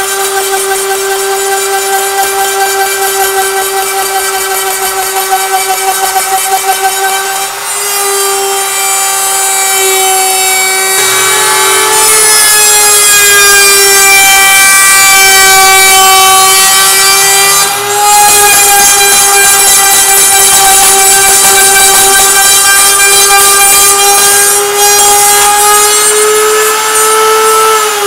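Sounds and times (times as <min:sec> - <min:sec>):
router high-pitched whine: 0:00.0 - 0:28.0.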